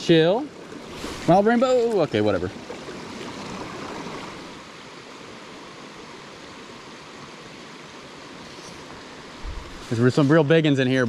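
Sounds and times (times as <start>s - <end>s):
creek flowing over rocks: 0.0s - 11.0s.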